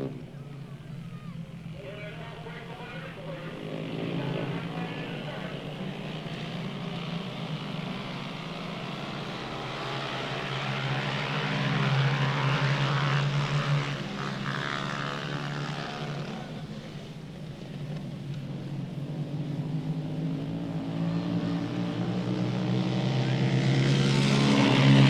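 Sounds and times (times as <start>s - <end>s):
engine drone passing by: 0.0s - 25.0s.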